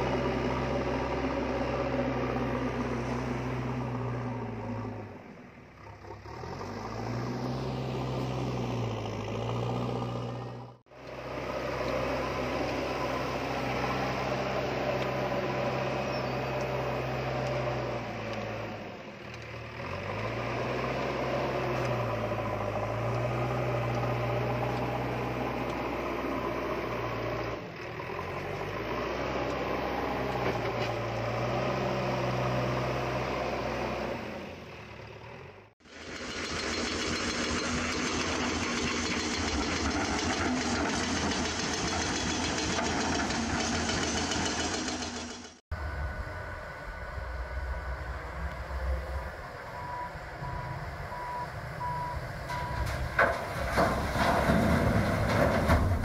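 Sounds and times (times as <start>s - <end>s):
large engine running: 0.0s - 56.0s.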